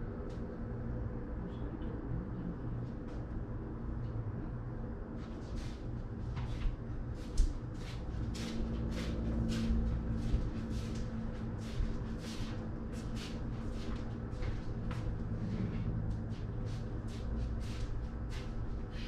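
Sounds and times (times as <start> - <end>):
low city hum: 0.0 - 19.0.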